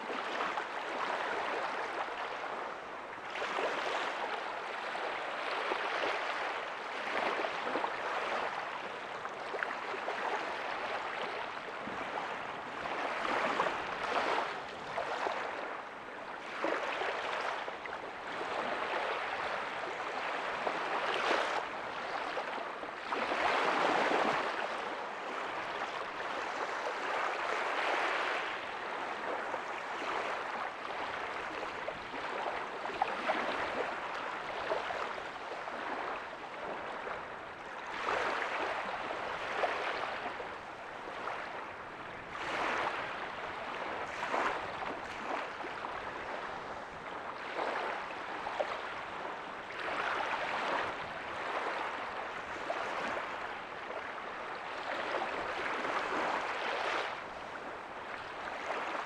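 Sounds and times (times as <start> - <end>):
small waves breaking on beach: 0.0 - 59.0.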